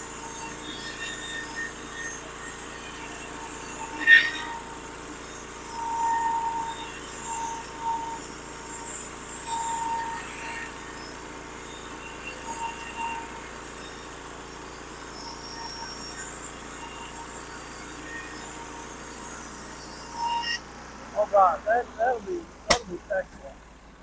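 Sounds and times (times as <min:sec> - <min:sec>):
bandsaw mill humming: 0:00.0 - 0:24.0.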